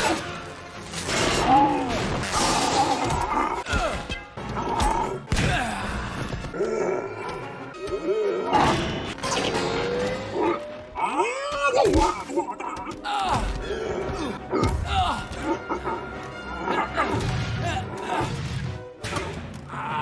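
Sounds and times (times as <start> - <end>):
film score music: 0.0 - 20.0
people yelling and grunting: 1.2 - 9.1, 10.4 - 20.0.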